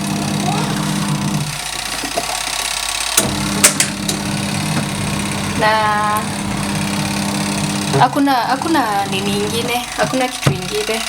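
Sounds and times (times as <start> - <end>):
washing machine motor humming: 0.0 - 11.0.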